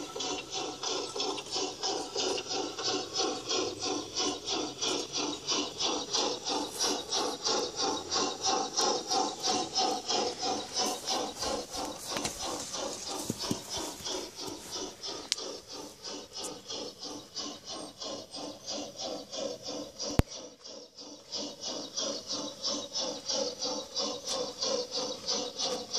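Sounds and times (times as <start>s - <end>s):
model steam locomotive chuffing: 0.0s - 25.9s.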